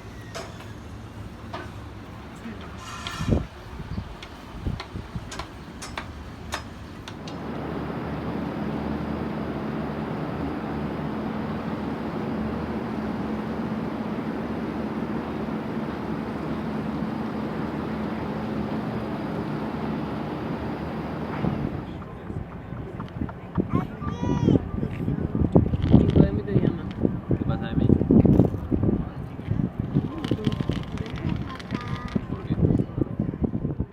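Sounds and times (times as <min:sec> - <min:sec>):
mechanical rumble with hum: 0:00.0 - 0:33.9.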